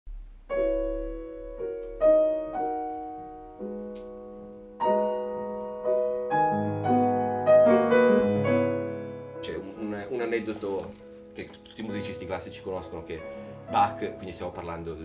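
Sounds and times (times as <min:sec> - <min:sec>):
low bass piano notes: 0:00.1 - 0:15.0
piano chords: 0:00.1 - 0:15.0.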